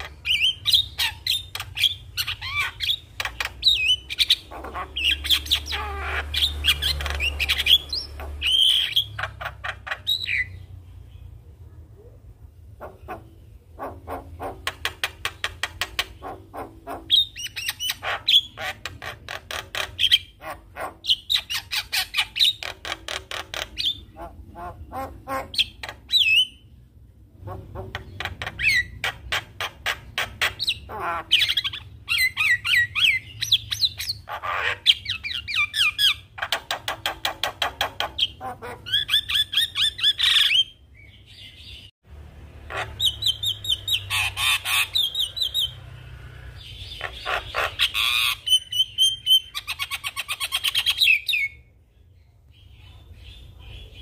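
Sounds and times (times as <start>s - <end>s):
bird singing varied song: 0.0s - 42.0s, 42.7s - 54.0s.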